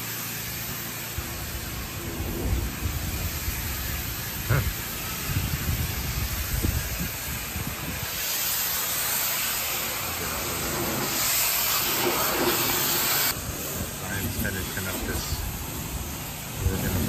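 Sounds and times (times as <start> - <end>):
pressure washer spraying wood: 0.0 - 17.0.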